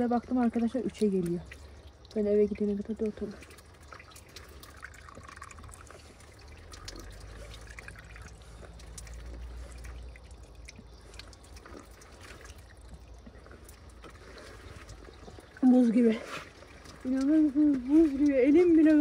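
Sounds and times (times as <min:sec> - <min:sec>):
water splashing into stone basin: 0:00.0 - 0:19.0
water trickling through hands: 0:00.0 - 0:19.0.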